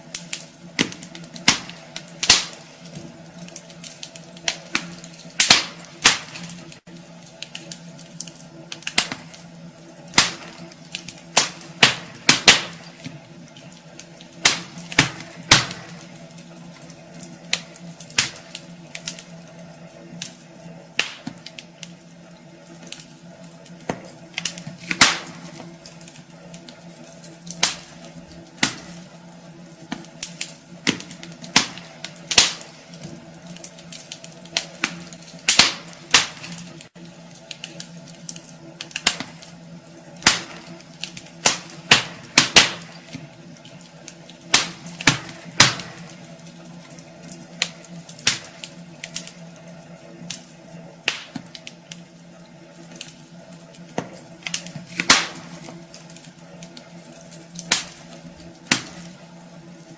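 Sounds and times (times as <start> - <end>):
logs crackling in fire: 0.0 - 59.9.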